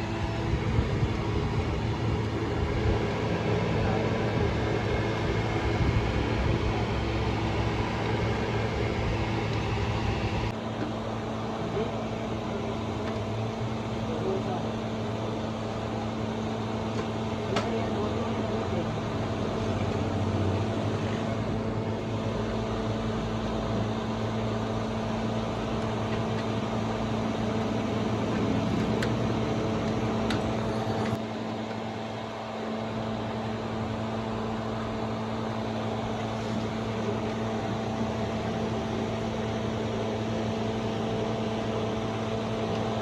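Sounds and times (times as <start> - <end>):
mechanical hum: 0.0 - 43.0.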